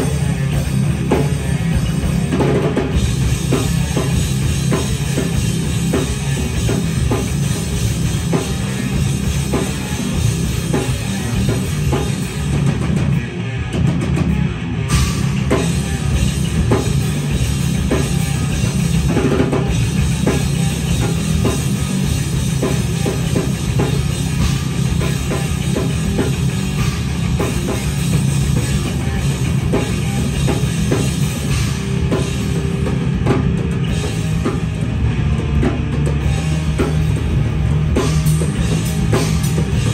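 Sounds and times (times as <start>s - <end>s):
bass guitar: 0.0s - 39.9s
distorted electric guitar: 0.0s - 39.9s
fast dense drumming: 0.0s - 39.9s.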